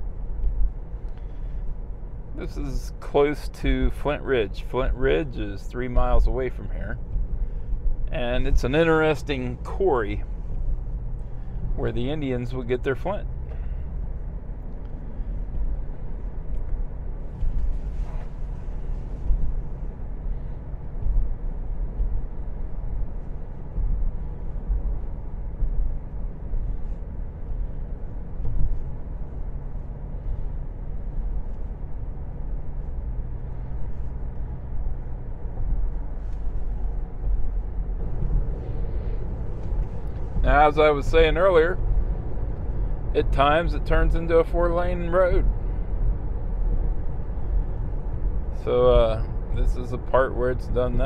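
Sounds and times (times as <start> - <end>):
car interior road rumble: 0.0 - 51.0.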